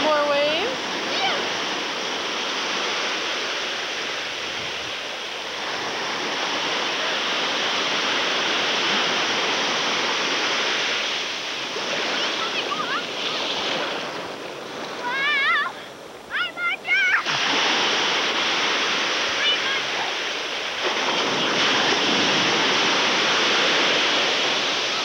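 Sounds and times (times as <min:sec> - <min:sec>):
low surf washing: 0:00.0 - 0:25.0.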